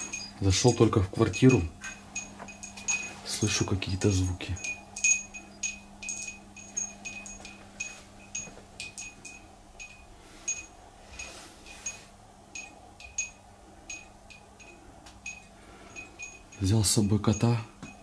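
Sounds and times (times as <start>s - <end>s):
faint electrical hum: 0.0s - 18.0s
high metallic pings: 0.0s - 18.0s.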